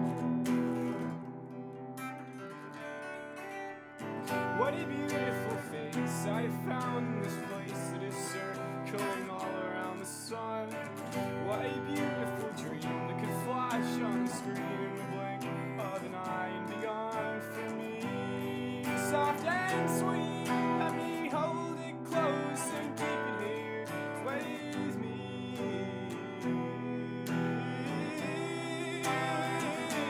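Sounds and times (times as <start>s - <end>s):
electric guitar strumming chords: 0.0s - 30.0s
man singing: 2.8s - 30.0s.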